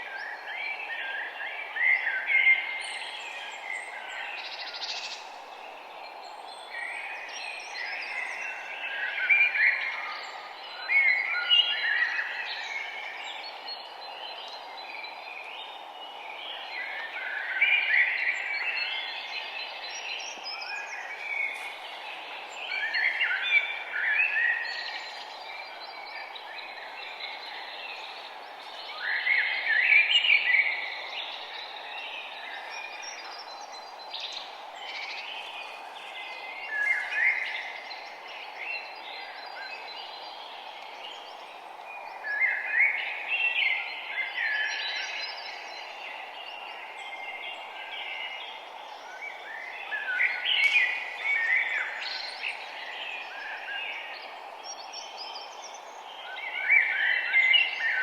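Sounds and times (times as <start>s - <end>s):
songbirds singing: 0.0s - 58.0s
steady background hiss: 0.0s - 58.0s.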